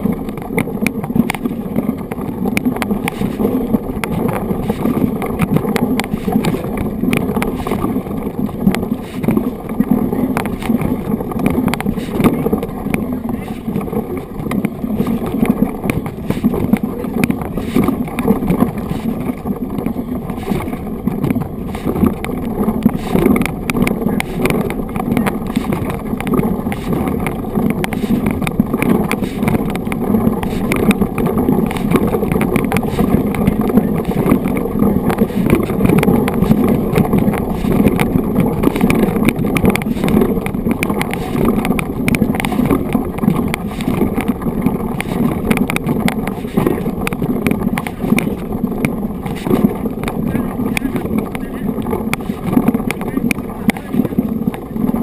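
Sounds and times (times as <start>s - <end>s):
bike rattles and clicks: 0.0s - 55.0s
bike tyres rumbling on gravel: 0.0s - 55.0s.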